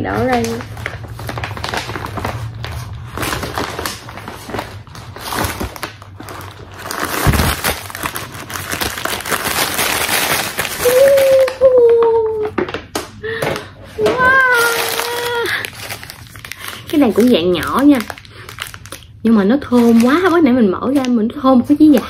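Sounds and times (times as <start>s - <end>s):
plastic wrappers crinkling: 0.0s - 22.0s.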